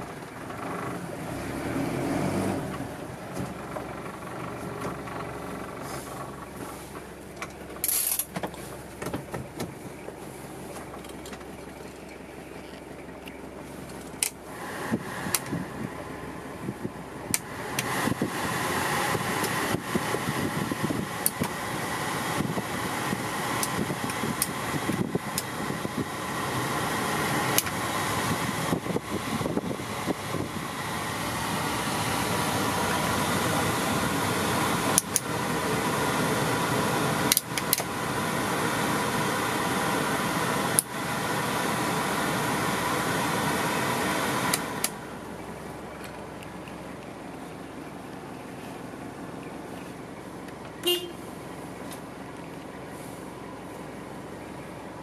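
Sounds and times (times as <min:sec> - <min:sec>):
blower fan running: 0:00.0 - 0:55.0.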